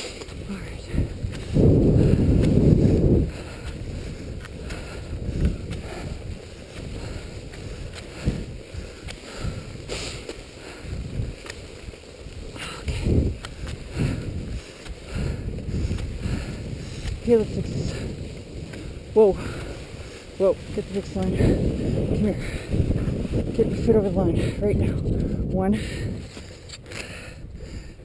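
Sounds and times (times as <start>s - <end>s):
skis swishing over snow: 0.0s - 27.8s
wind rumbling on microphone: 0.0s - 28.0s.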